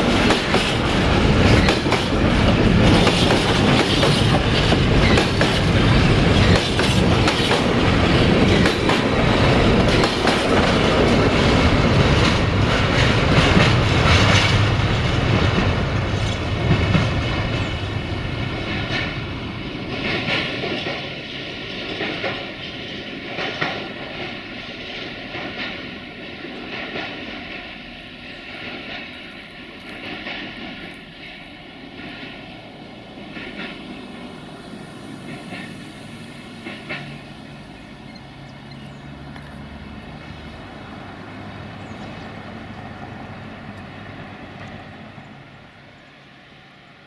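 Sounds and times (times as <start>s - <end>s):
freight train rumbling: 0.0s - 47.0s.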